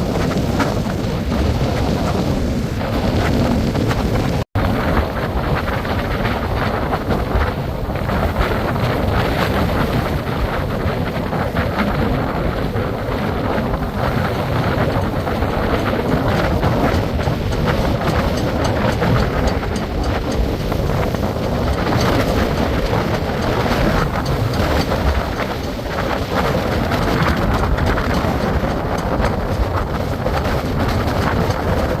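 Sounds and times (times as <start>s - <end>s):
strong wind buffeting microphone: 0.0s - 32.0s.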